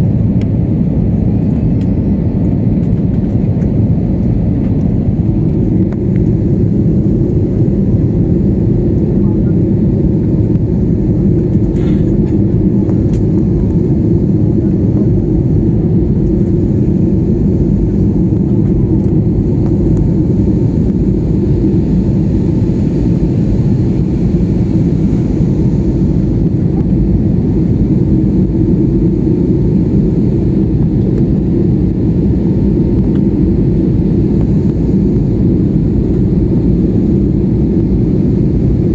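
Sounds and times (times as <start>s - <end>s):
airflow: 0.0s - 38.9s
jet engines rumbling: 0.0s - 38.9s.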